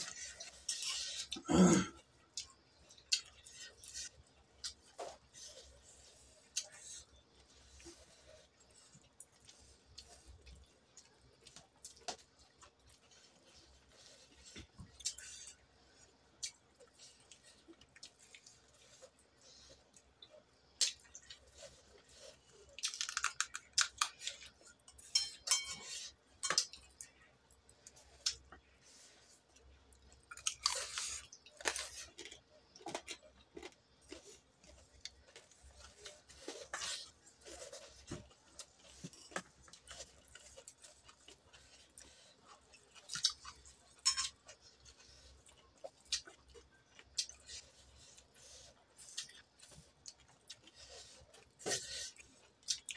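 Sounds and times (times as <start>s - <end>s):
chewing and smacking: 2.0s - 25.1s, 25.8s - 52.9s.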